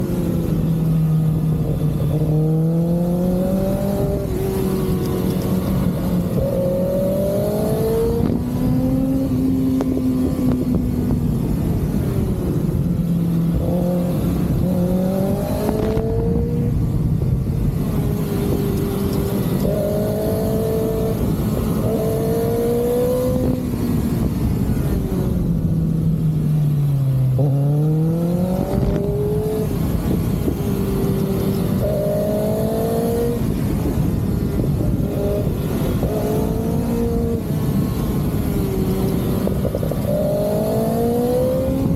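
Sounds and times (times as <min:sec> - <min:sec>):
motorcycle engine revving: 0:00.0 - 0:26.0, 0:26.7 - 0:41.9.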